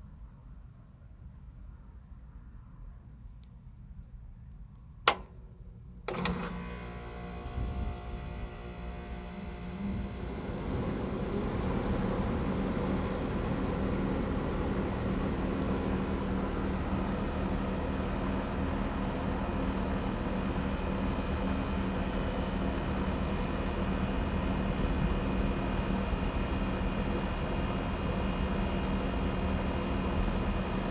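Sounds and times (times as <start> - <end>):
compressor hum: 5.0 - 30.9
condenser fan rushing: 5.1 - 30.9.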